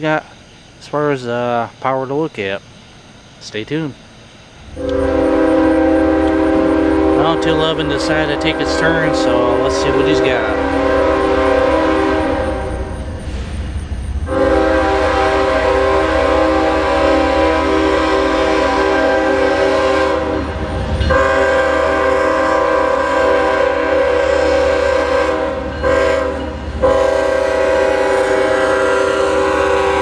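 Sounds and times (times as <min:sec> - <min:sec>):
locomotive air horn blasts: 0:04.7 - 0:13.5, 0:14.3 - 0:30.0.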